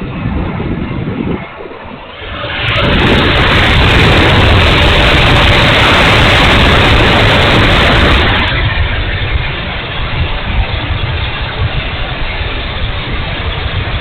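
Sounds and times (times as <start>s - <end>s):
model jet rushing roar: 0.0s - 14.0s.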